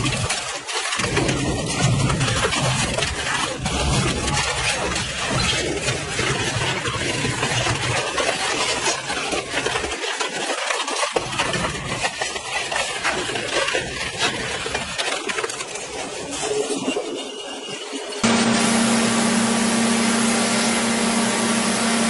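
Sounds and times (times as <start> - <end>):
shredder grinding metal and plastic: 0.0 - 22.0.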